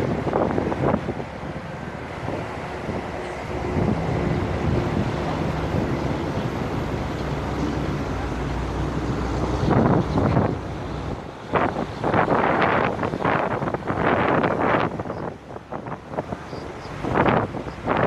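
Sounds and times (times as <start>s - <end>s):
vehicle engine and road noise: 0.0s - 18.0s
wind buffeting microphone: 0.0s - 18.0s.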